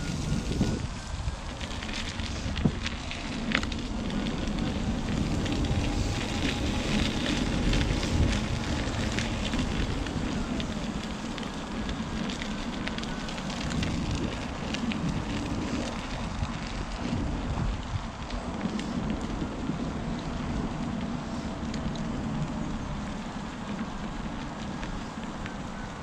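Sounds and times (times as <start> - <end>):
faint motor whine: 0.0 - 26.0
tyre crackling over ground: 0.0 - 26.0
wind rumble on microphone: 0.0 - 26.0.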